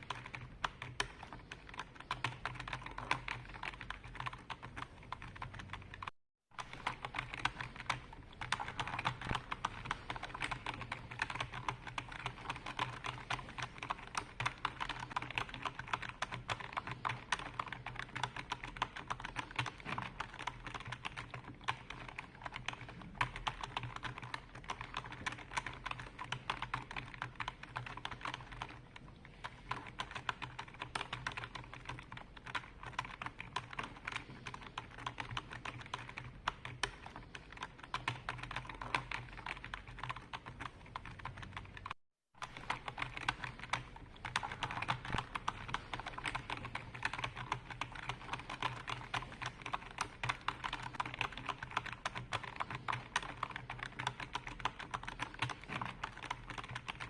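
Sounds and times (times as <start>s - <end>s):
typing on computer keyboard: 0.0s - 57.0s.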